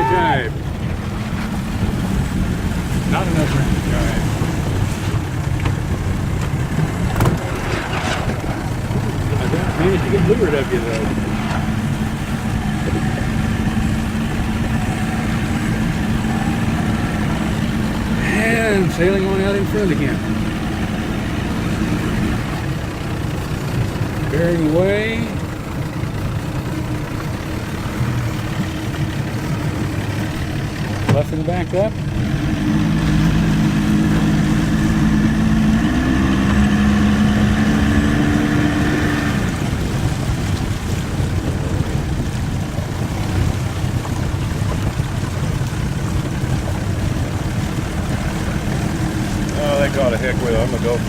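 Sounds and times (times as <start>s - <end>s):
motorboat engine idling: 0.0s - 51.0s.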